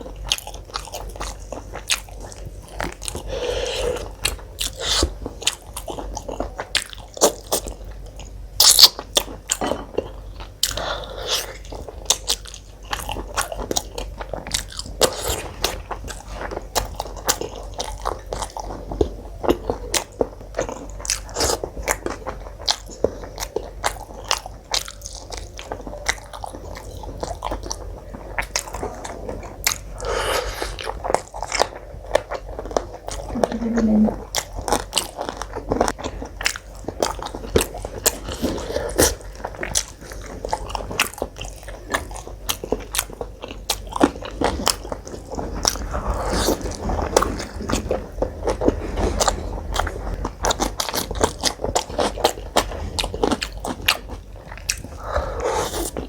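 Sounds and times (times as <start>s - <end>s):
chewing and biting food: 0.0s - 56.0s.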